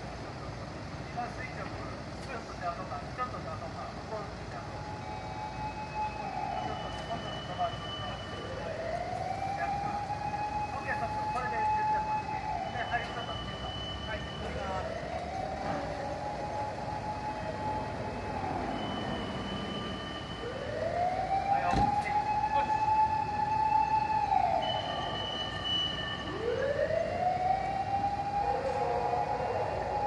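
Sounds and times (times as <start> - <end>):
fire engine siren wailing: 2.4 - 30.0.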